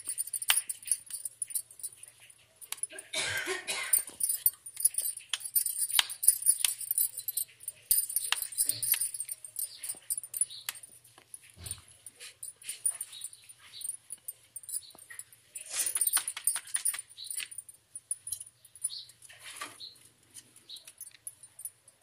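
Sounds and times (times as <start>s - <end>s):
bangles clinking and jingling: 0.0s - 19.7s, 20.3s - 22.0s.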